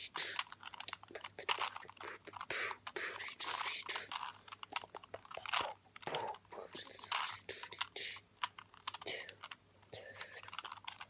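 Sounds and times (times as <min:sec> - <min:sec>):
puzzle cube clicking and scraping: 0:00.0 - 0:11.0.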